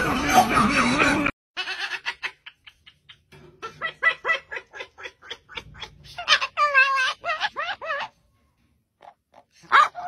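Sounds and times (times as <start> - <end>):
parrot imitating laughter: 0.0 - 8.2.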